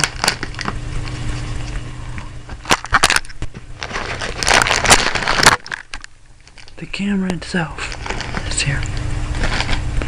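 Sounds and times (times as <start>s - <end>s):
packaging crinkling and rustling: 0.0s - 6.9s, 7.8s - 10.0s
steady low hum: 0.0s - 10.0s.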